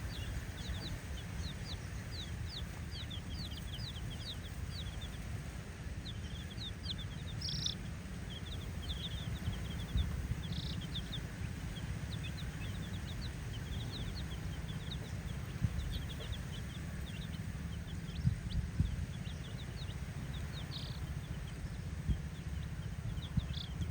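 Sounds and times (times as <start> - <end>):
baby chickens peeping: 0.0 - 23.9
steady low rumble: 0.0 - 23.9.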